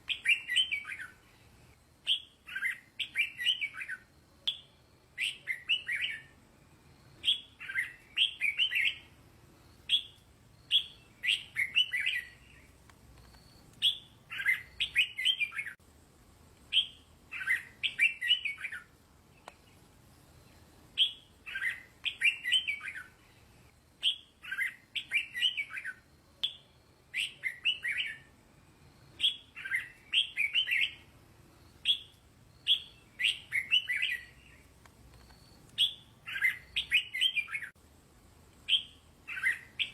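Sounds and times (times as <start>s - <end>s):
bulbul singing: 0.0s - 1.4s, 2.0s - 6.4s, 7.1s - 9.2s, 9.8s - 15.8s, 16.7s - 23.2s, 24.0s - 28.3s, 29.0s - 31.1s, 31.7s - 37.8s, 38.6s - 39.9s.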